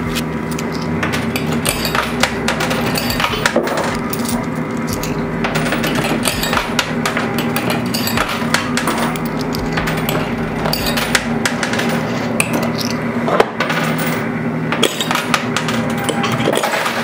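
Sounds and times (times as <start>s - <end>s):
coins clinking and clattering: 0.0s - 17.0s
machine hum: 0.0s - 17.0s.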